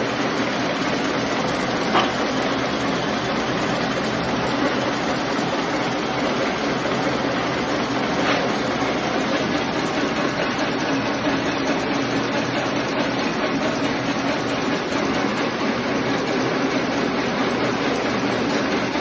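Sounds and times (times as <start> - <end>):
machine mechanical clatter: 0.0 - 19.0.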